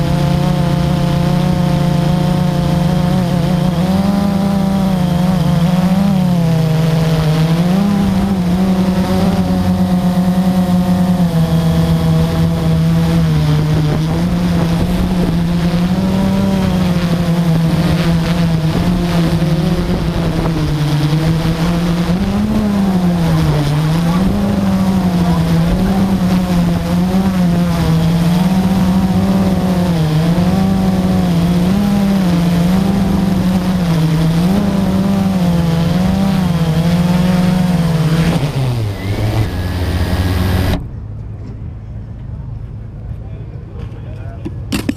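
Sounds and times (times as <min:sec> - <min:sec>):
drone motors humming: 0:00.0 - 0:43.3.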